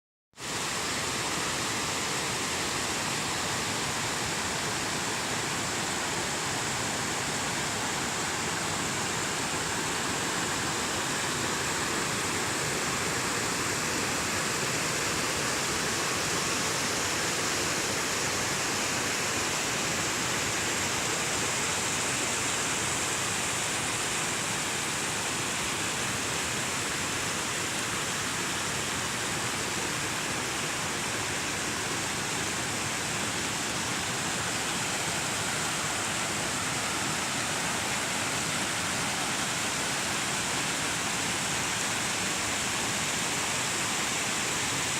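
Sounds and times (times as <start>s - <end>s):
flowing water rushing: 0.4s - 44.9s.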